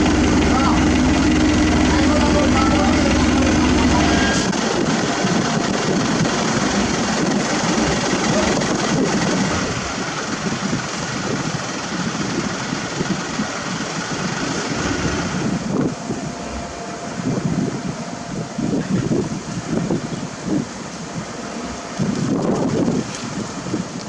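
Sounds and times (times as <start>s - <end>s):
road-paving machinery engine din: 0.0s - 20.0s.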